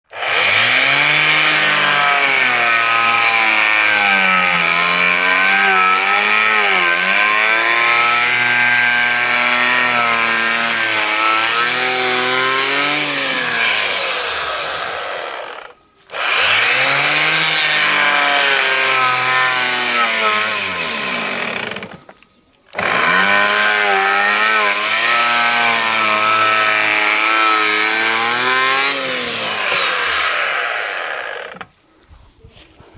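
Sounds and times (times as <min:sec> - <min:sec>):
electric planer cutting wood: 0:00.1 - 0:22.1, 0:22.8 - 0:31.7.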